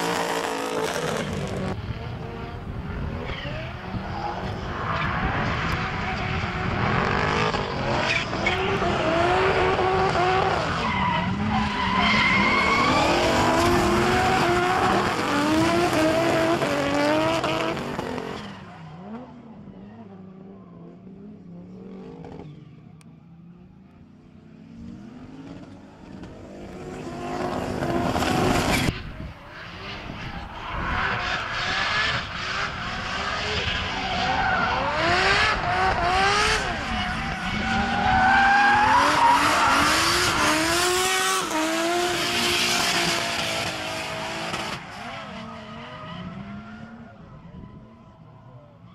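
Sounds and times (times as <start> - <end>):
car engines revving hard: 0.0 - 18.4, 24.5 - 47.8.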